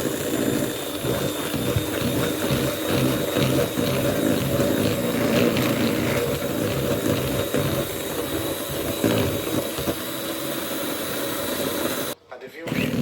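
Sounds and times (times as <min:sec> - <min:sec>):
electric mixer beating batter: 0:00.0 - 0:13.0.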